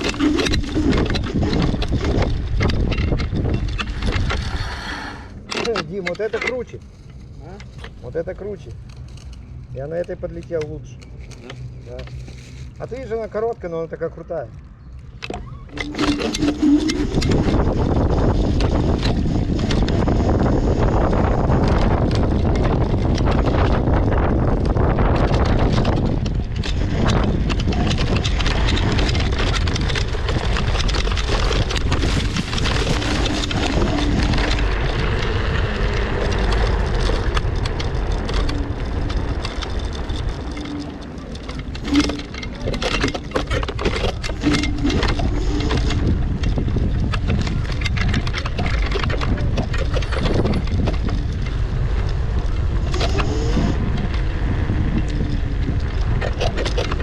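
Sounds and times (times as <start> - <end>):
knocks and rattles from bumps: 0.0 - 4.5, 15.0 - 54.3, 54.9 - 57.0
wind on microphone: 0.0 - 5.5, 14.8 - 57.0
vehicle engine running: 5.6 - 57.0.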